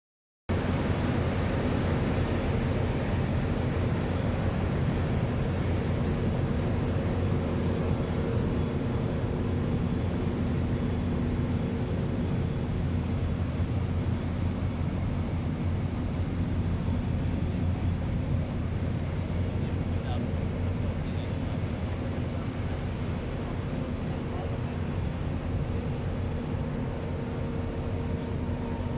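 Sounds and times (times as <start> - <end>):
jet fighter engine running: 0.6 - 28.9.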